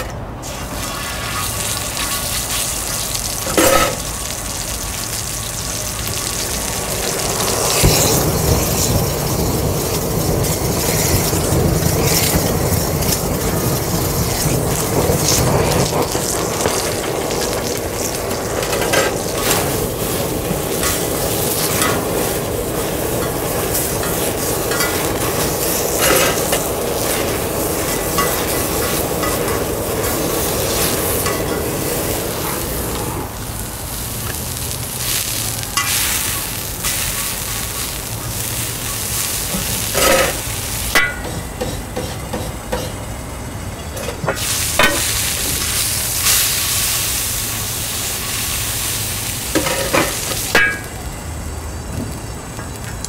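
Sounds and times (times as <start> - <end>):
steak sizzling: 0.4 - 52.8.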